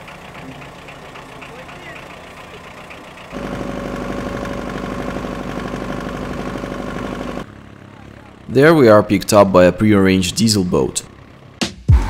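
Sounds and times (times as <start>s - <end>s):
boat engine chugging: 0.0s - 11.7s.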